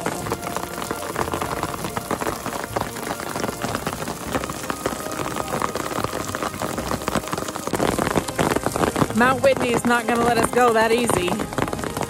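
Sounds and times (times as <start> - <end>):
hail pattering: 0.0 - 12.0.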